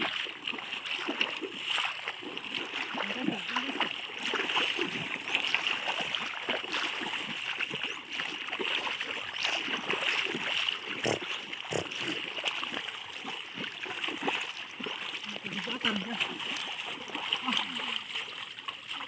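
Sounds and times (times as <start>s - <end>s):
river water splashing: 0.0s - 19.0s.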